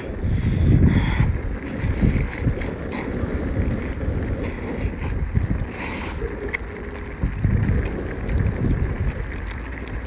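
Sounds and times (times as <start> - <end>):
wet slurping and chewing: 0.0 - 10.0
wind buffeting microphone: 0.0 - 10.0.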